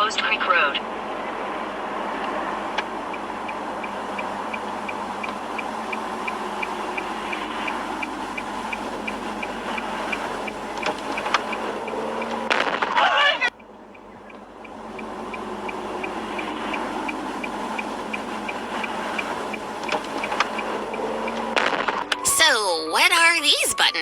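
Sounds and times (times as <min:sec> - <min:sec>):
road and engine noise: 0:00.0 - 0:24.0
turn signal ticking: 0:00.0 - 0:24.0
sharp clicks: 0:02.2 - 0:22.3.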